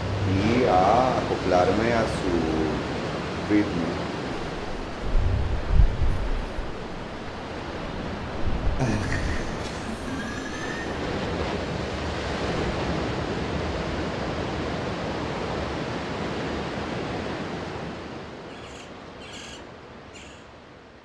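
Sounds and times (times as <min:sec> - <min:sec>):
steady rushing noise: 0:00.0 - 0:18.4.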